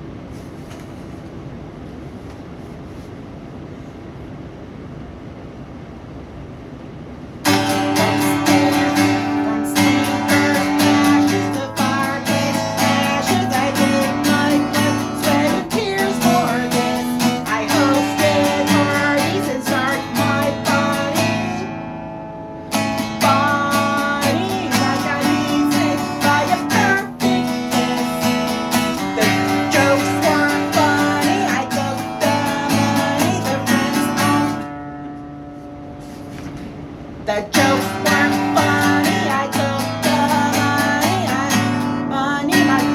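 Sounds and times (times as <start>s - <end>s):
strummed acoustic guitar: 7.4s - 42.9s.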